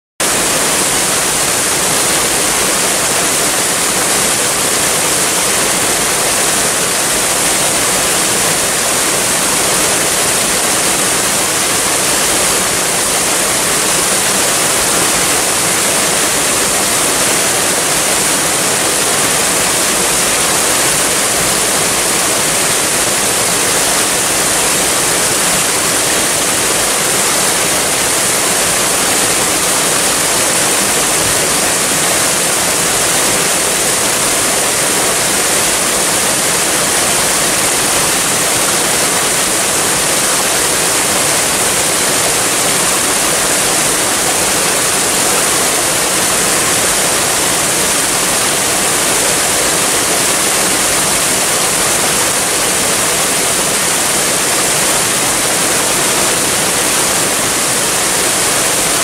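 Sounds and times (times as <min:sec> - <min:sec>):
waterfall rushing: 0:00.2 - 0:59.0.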